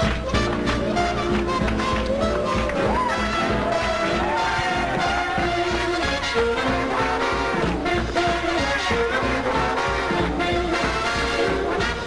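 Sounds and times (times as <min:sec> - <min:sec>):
big band swing music with brass: 0:00.0 - 0:12.0.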